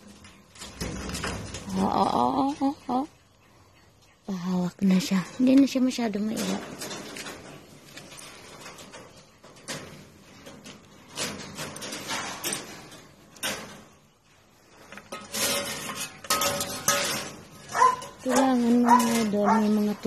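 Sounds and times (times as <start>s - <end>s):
wire-mesh cages rattling: 0.0s - 3.2s, 4.7s - 20.0s.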